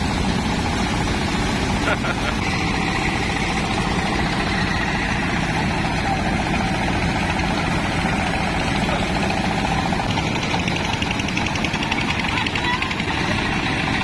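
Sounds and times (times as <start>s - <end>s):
rice thresher engine drone: 0.0s - 14.0s.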